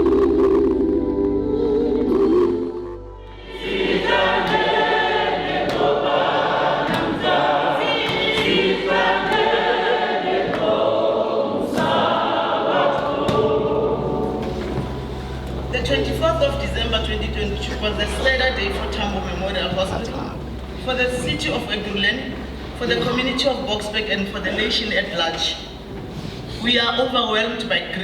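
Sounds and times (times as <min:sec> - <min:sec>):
choir singing: 0:00.5 - 0:26.2.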